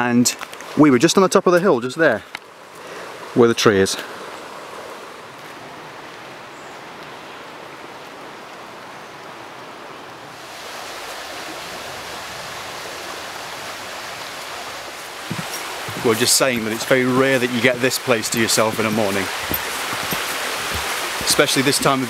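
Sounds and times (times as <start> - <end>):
river rushing over stones: 2.6 - 22.0.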